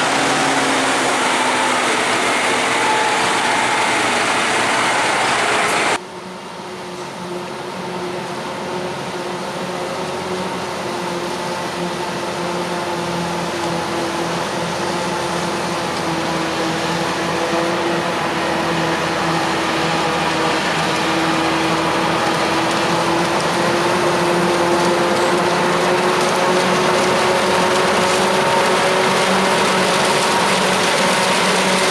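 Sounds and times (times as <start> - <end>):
farm machinery engine whining: 0.0 - 6.0, 12.3 - 31.9.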